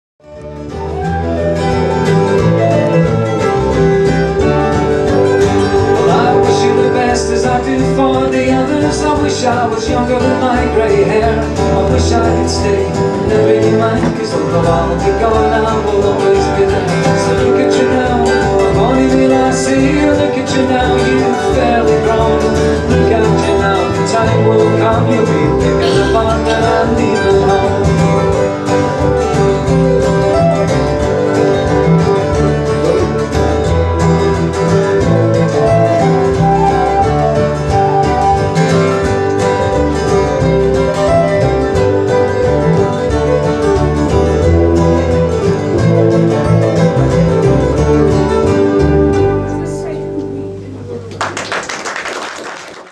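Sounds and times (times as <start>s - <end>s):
flute: 0.2s - 51.1s
keyboard: 0.2s - 51.2s
acoustic guitar: 0.2s - 52.9s.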